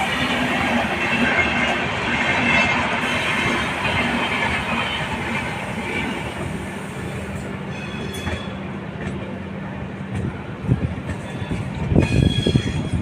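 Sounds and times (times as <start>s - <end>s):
train rumble and hiss on rails: 0.0s - 13.0s.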